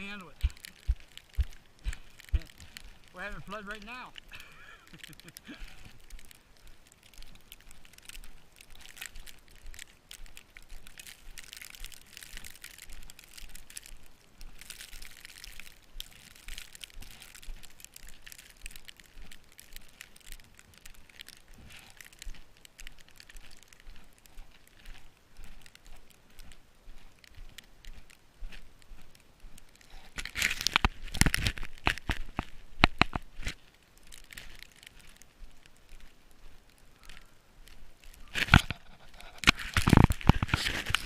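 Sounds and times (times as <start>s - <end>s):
wet snow crunching: 0.0s - 41.0s.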